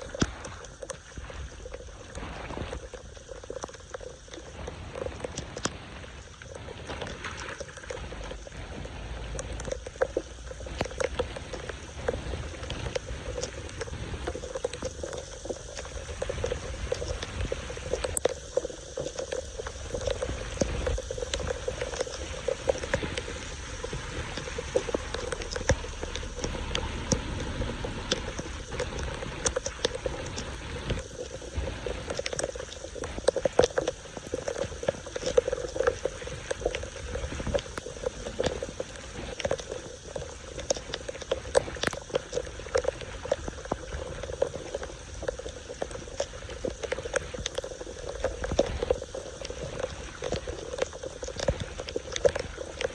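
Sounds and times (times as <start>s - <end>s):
water gurgling into drain: 0.0s - 52.9s
water splashes: 0.0s - 52.9s.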